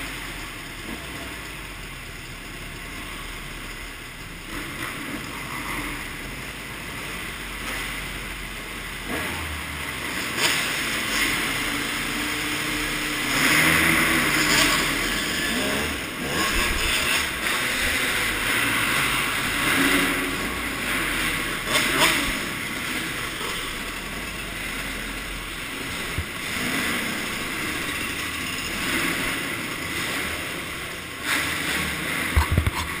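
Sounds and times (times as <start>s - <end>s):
motorcycle engine: 0.0s - 33.0s
steady rushing noise: 6.2s - 33.0s.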